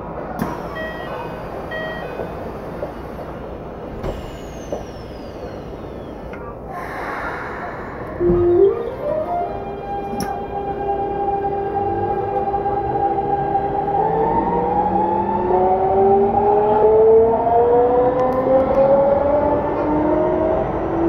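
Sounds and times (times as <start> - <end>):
traction motor and rail noise: 0.0 - 16.9
train inverter whining: 0.0 - 16.9.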